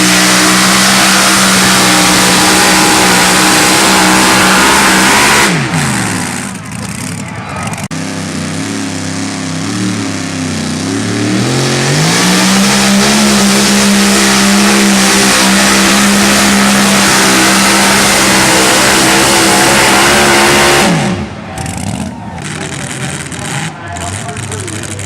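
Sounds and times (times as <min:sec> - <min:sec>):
truck engine revving at full throttle: 0:00.0 - 0:25.0.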